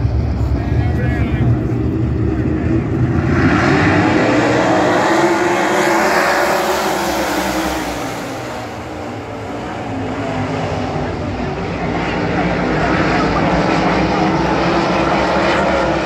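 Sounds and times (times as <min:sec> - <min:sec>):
race car engines roaring past: 0:00.0 - 0:16.0.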